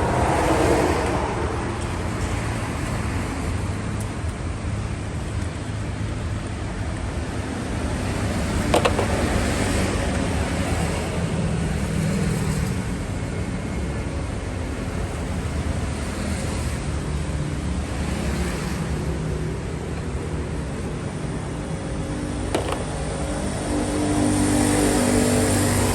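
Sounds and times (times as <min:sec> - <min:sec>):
car running with road noise: 0:00.0 - 0:25.9.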